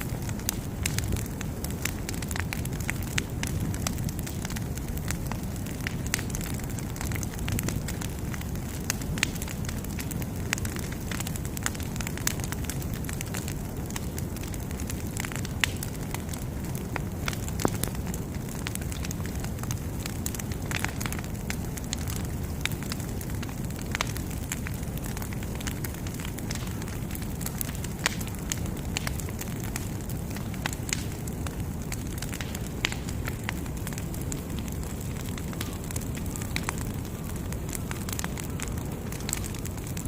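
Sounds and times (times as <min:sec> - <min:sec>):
bonfire flames rumbling: 0:00.0 - 0:40.0
fire crackling and popping: 0:00.0 - 0:40.0.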